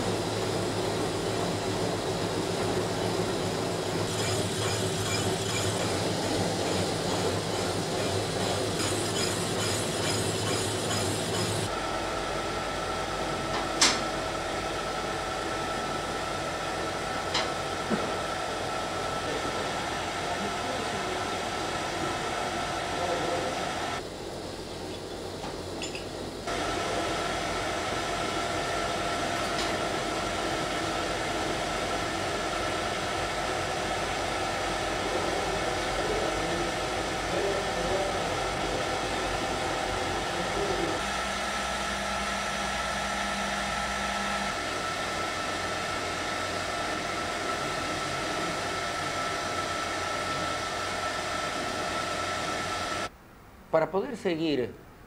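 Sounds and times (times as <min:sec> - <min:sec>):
lathe machinery whirring: 0:00.0 - 0:24.4, 0:26.4 - 0:53.1.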